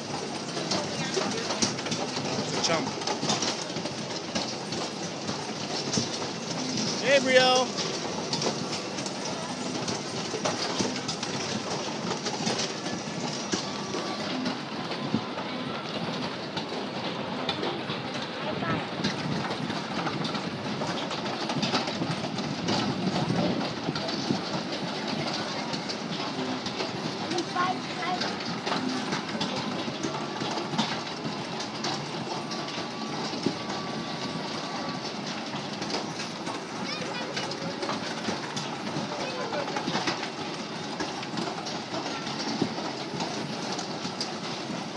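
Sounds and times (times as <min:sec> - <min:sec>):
turntable rumbling and clattering: 0:00.0 - 0:44.9.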